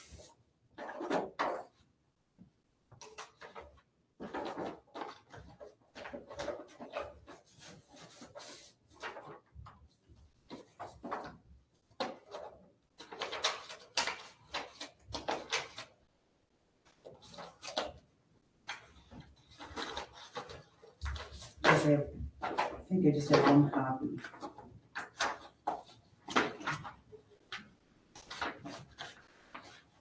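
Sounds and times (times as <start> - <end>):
paper rustling and shuffling: 0.0 - 1.9, 3.0 - 16.0, 16.9 - 30.0.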